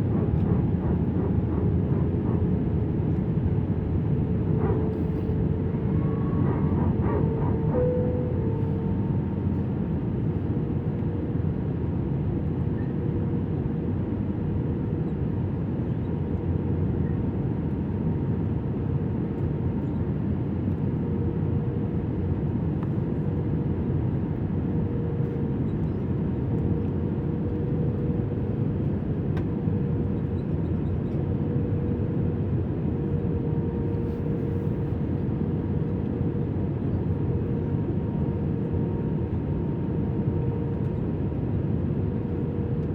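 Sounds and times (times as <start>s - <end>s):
airliner cabin engine rush: 0.0s - 42.9s.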